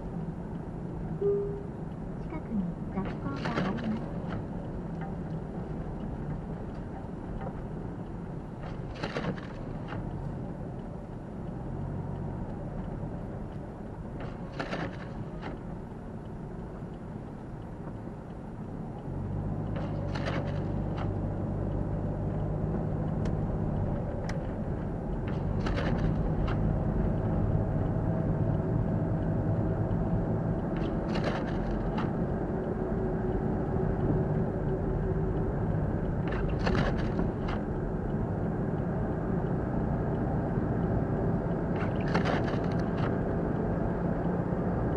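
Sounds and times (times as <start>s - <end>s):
car engine and tyre hum: 0.0s - 44.9s.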